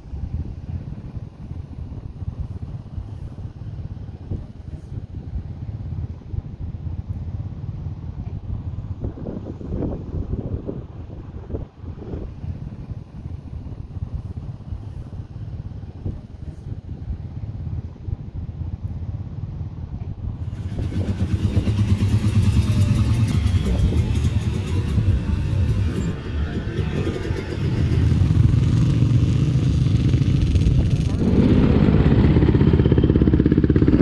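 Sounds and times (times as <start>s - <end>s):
dirt bike engines running: 1.0s - 34.0s.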